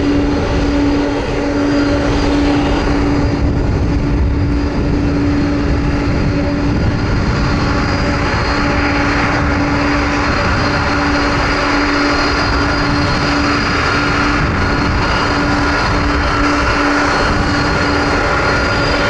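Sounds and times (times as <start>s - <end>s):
jet engine whine: 0.0s - 19.0s
jet engines running: 0.0s - 19.0s.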